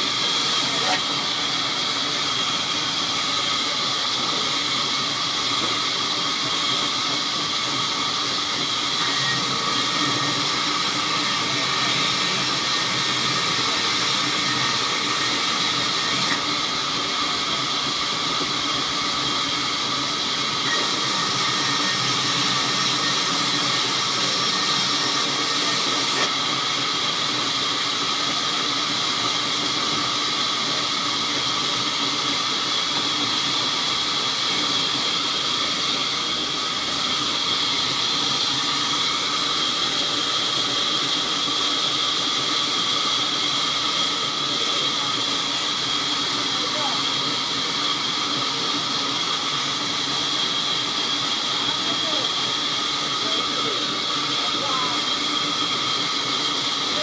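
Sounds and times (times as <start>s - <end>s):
band saw cutting wood: 0.0s - 2.2s, 7.9s - 27.8s, 32.0s - 57.0s.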